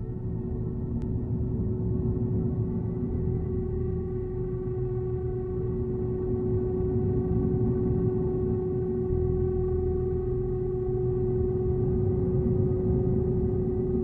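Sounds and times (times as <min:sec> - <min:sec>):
dark ambient drone music: 0:00.0 - 0:14.0.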